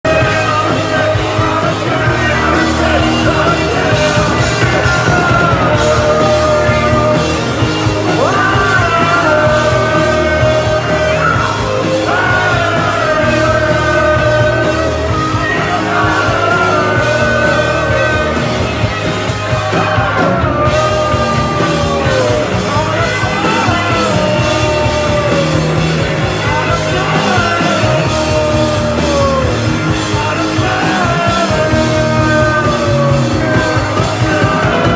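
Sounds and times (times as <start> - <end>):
person singing: 0.0 - 34.9
rock band playing loud: 0.0 - 34.9.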